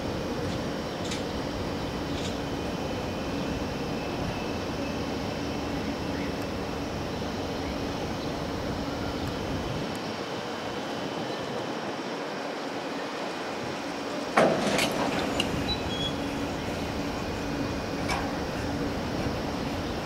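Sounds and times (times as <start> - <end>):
train running on track: 0.0 - 20.0.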